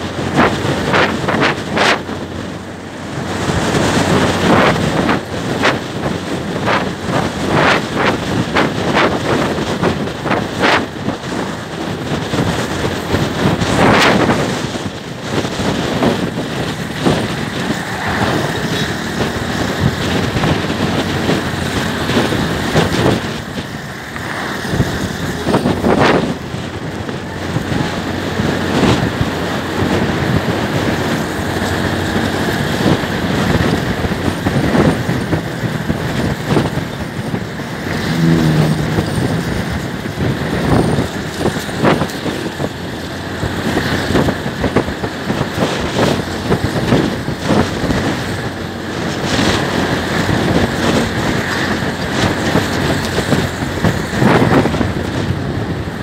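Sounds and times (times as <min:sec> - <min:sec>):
scooter engine and tyre noise: 0:00.0 - 0:56.0
wind buffeting microphone: 0:00.0 - 0:56.0.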